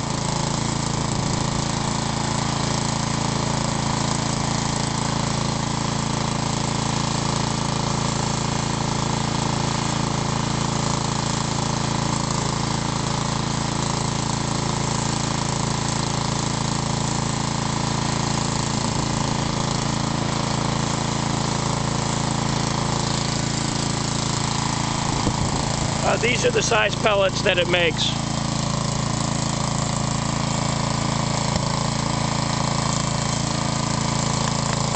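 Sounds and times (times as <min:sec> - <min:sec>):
small gasoline engine running: 0:00.0 - 0:34.9.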